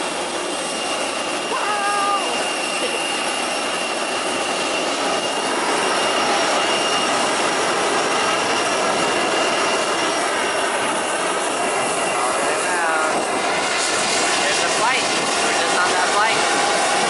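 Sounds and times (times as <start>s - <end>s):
high steady engine whine: 0.0s - 17.0s
jet engines rushing: 0.0s - 17.0s.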